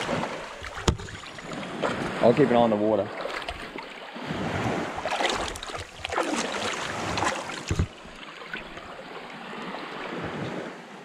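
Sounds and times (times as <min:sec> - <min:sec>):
shallow water splashing: 0:00.0 - 0:10.7.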